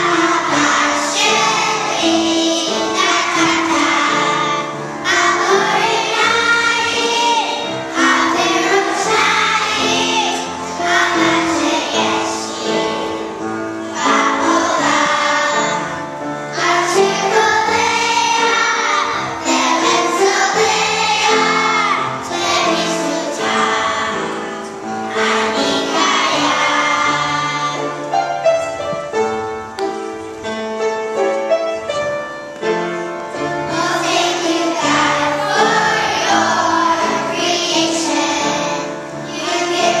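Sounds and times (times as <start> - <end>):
children's choir singing: 0.0 - 30.7, 31.5 - 40.0.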